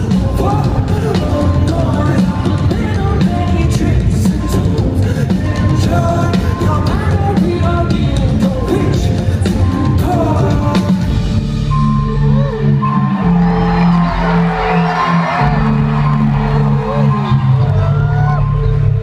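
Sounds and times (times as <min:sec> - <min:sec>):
heavy drums and percussion: 0:00.0 - 0:18.4
held bass notes and synth: 0:00.0 - 0:19.0
keyboards and guitar: 0:00.0 - 0:19.0.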